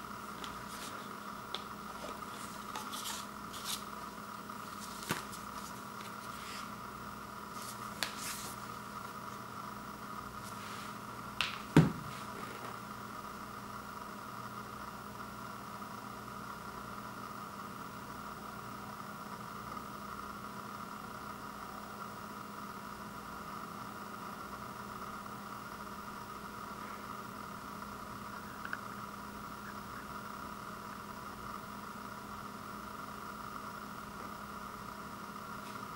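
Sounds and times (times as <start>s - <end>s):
steady background hum: 0.0s - 35.9s.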